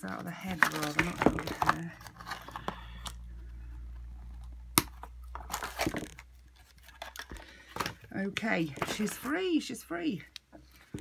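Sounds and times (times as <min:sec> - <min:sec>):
packaging handling rattles: 0:00.0 - 0:09.3.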